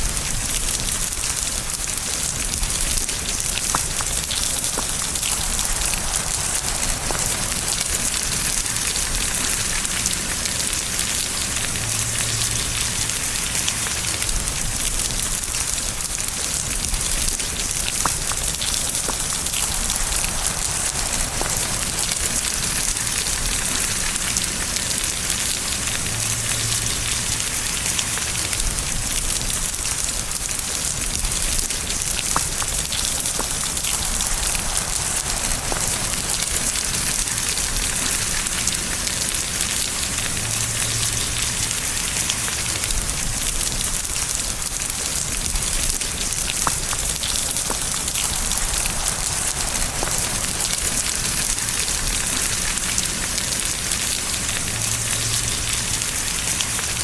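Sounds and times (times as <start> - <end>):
rain falling on a surface: 0.0 - 57.0
single louder raindrop: 0.0 - 57.0.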